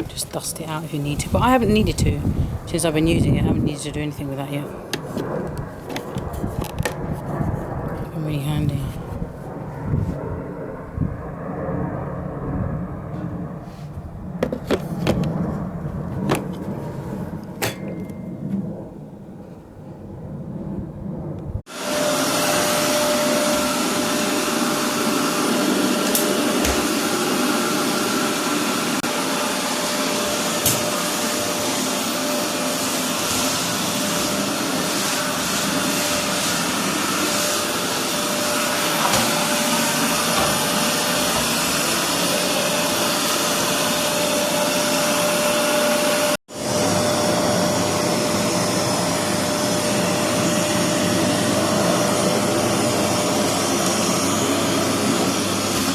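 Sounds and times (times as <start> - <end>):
vacuum cleaner running: 0.0 - 10.2, 13.1 - 18.0, 21.6 - 55.9.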